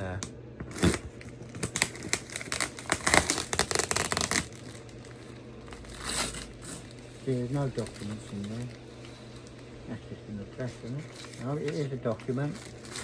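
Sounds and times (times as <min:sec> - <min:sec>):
cardboard box packing rustling: 0:00.7 - 0:09.6, 0:10.6 - 0:13.0.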